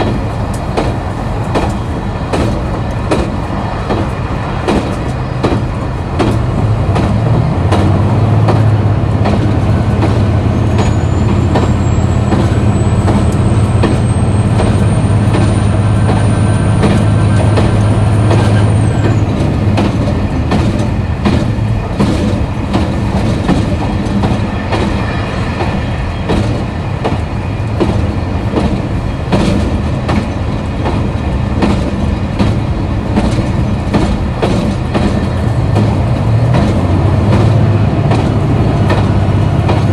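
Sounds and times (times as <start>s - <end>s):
diesel railcar engine drone: 0.0s - 39.9s
rail clickety-clack: 0.0s - 39.9s.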